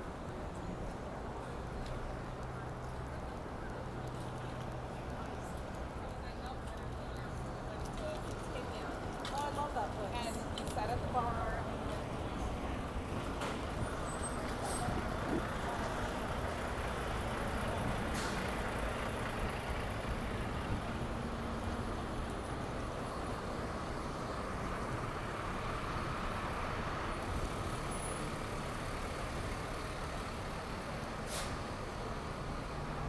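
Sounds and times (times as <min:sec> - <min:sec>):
passing cars and trucks: 0:00.0 - 0:33.0.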